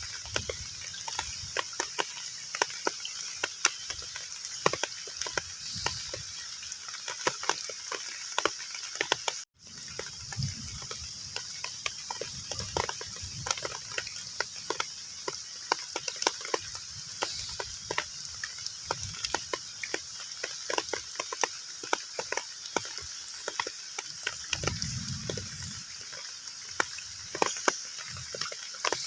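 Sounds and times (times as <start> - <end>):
heavy rain on a pond: 0.0 - 29.0.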